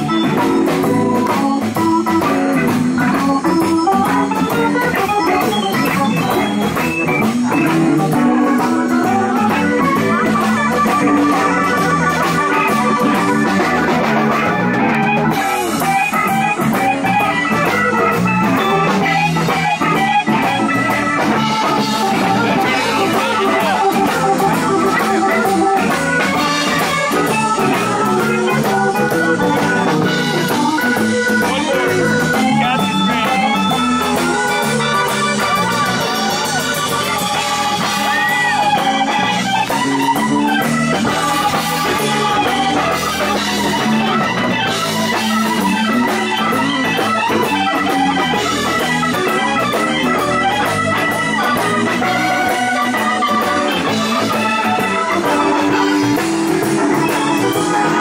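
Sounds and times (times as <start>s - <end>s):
live blues band playing: 0.0s - 58.0s.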